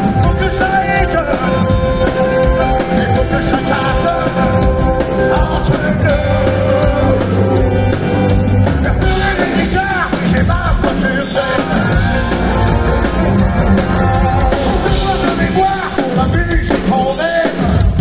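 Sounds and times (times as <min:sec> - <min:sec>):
man singing: 0:00.0 - 0:12.7, 0:13.9 - 0:18.0
full band playing pop-rock: 0:00.0 - 0:18.0.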